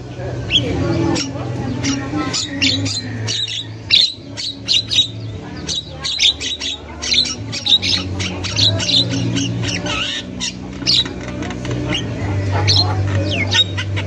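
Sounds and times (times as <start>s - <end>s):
bird squawking calls: 0.4s - 14.0s.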